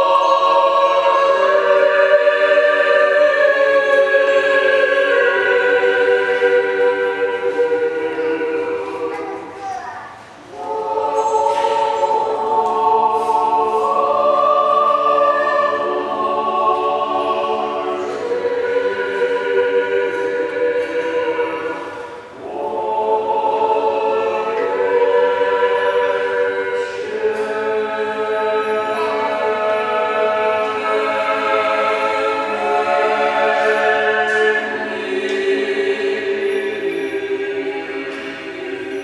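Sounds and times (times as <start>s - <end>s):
choir chanting unaccompanied: 0.0s - 39.0s.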